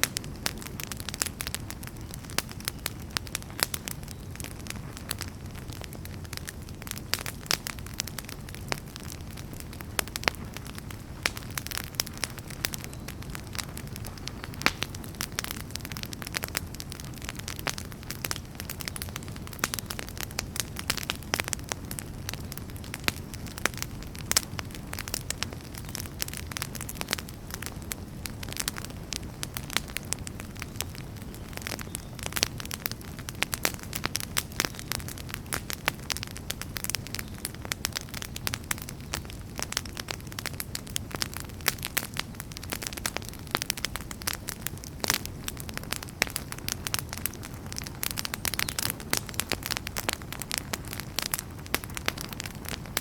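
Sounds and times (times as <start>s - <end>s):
burning logs crackling and popping: 0.0s - 53.0s
low rumble of flame: 0.0s - 53.0s.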